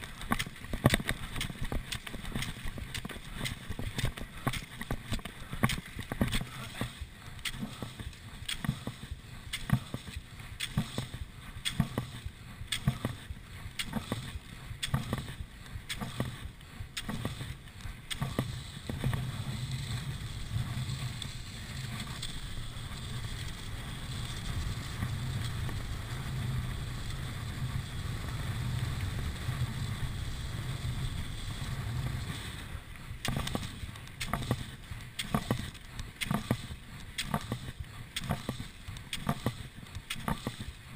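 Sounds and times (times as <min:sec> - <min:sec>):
ski poles and skis knocking: 0:00.0 - 0:26.8, 0:27.7 - 0:40.9
skis gliding in tracks: 0:00.0 - 0:40.9.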